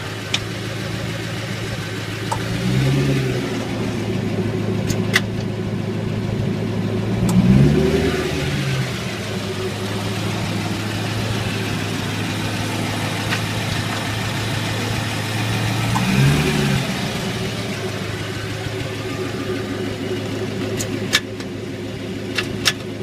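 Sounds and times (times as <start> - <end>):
car engine running at low throttle: 0.0 - 23.0.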